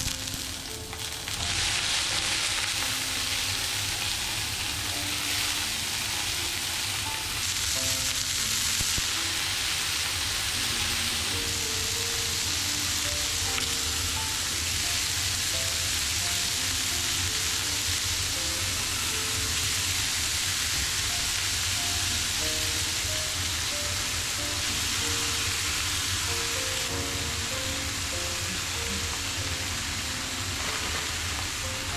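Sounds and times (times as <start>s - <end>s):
food sizzling in a frying pan: 0.0s - 31.9s
soft background music: 0.0s - 31.9s.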